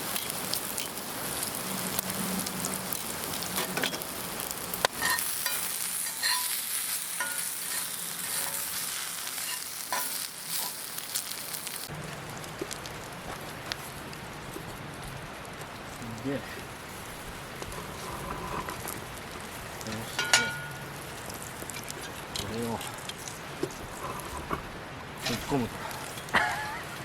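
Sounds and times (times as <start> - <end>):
pork sizzling in a skillet: 0.0 - 27.0.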